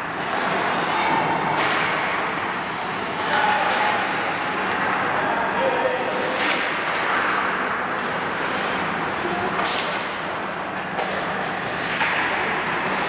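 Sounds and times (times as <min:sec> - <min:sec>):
skates scraping ice: 0:01.5 - 0:10.2, 0:10.8 - 0:13.0.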